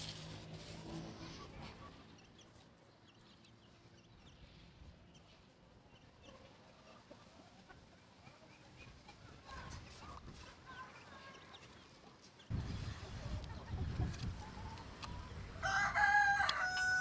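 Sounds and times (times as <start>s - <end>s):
chickens clucking: 0.8s - 15.7s.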